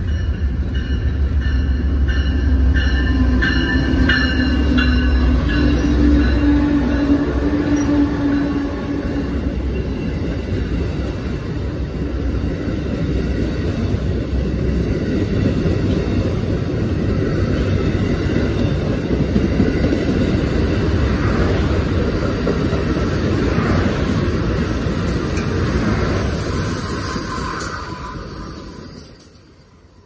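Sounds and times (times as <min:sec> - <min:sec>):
steel wheels rumbling on rail: 0:00.0 - 0:30.0.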